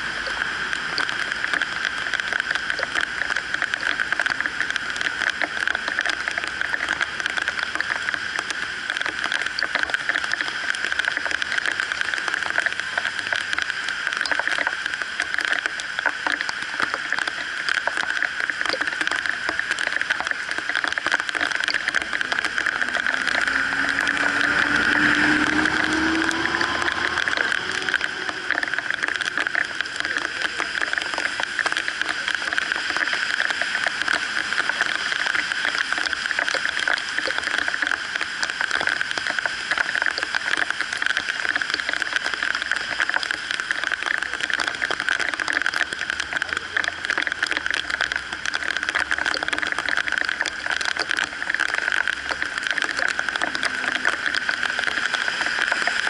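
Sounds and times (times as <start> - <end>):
heavy rain on pavement: 0.0 - 56.0
vehicle passing on wet road: 0.0 - 56.0.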